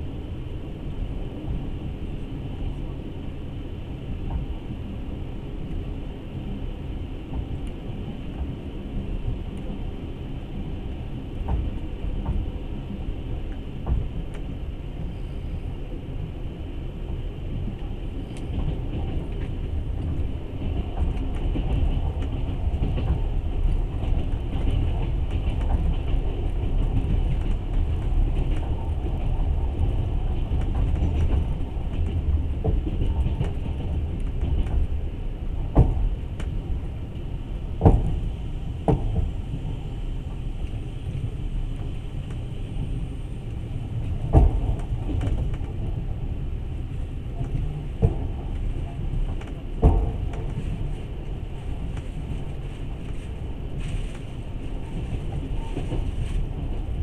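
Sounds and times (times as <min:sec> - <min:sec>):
train carriage rumbling on rails: 0:00.0 - 0:57.0.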